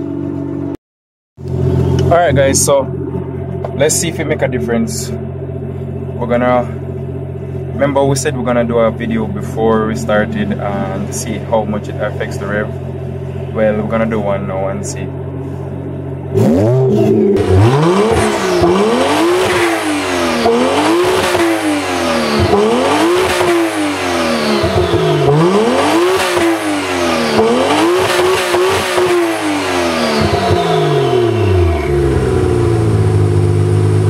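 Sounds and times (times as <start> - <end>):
car engine idling: 0.0 - 0.8, 1.4 - 34.0
car engine revving: 1.4 - 34.0.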